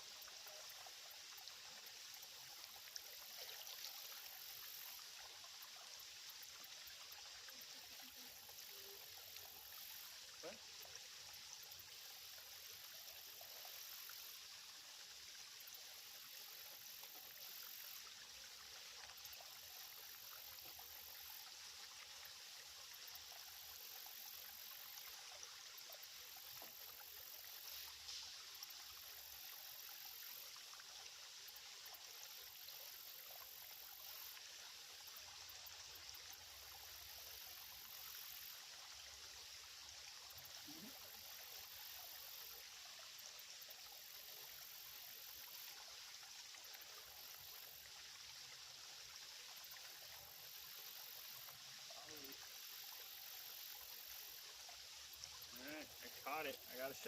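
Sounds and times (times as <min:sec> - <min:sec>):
creek water trickling: 0:00.0 - 0:57.0.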